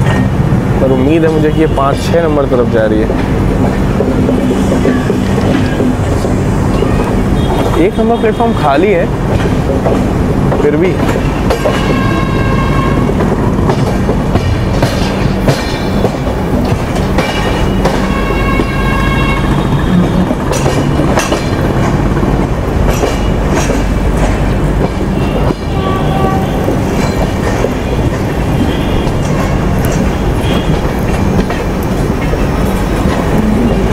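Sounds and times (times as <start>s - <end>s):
train low hum: 0.0s - 33.9s
train wheels clicking on rail joints: 0.0s - 33.9s.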